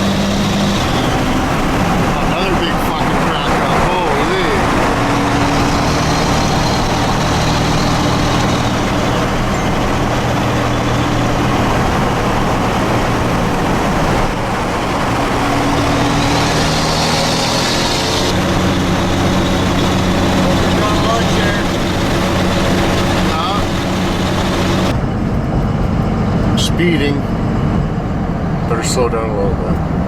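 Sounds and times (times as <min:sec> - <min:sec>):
road noise: 0:00.0 - 0:30.0
truck engine drone: 0:00.0 - 0:30.0.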